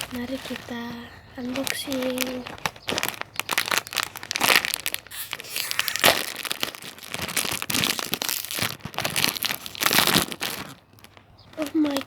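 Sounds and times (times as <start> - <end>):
plastic packet crinkling and tearing: 0.0 - 12.0.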